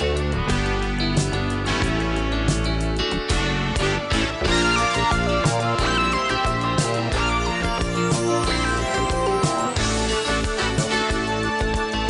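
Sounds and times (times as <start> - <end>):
upbeat music with guitar and beat: 0.0 - 12.0.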